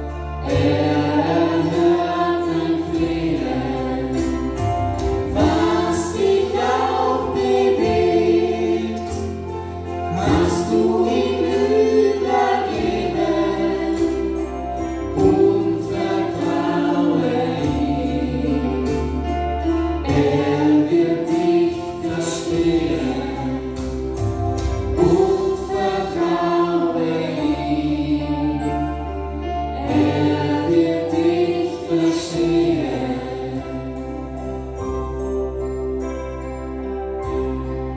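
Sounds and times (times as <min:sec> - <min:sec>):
group singing a hymn: 0:00.0 - 0:34.8
electronic keyboard accompaniment: 0:00.0 - 0:37.9.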